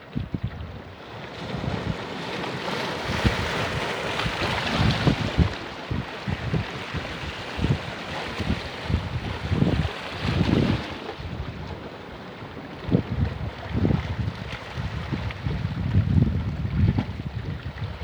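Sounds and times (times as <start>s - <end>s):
sea surf washing on beach: 0.0s - 18.0s
wind buffeting microphone: 0.0s - 18.0s.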